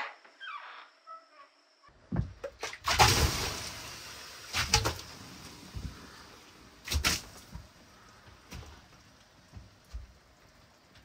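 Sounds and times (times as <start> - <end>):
water splashing on wood: 2.2 - 11.0.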